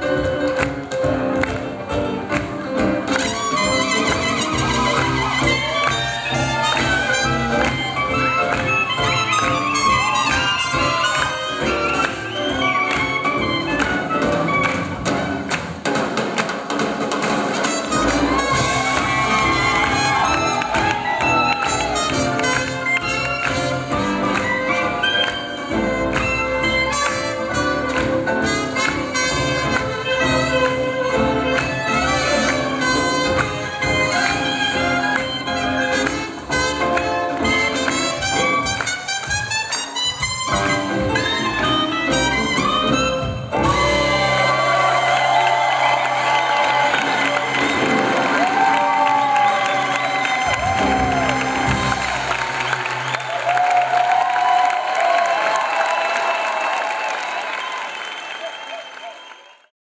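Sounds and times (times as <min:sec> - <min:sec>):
swing jazz band playing: 0:00.0 - 0:53.3.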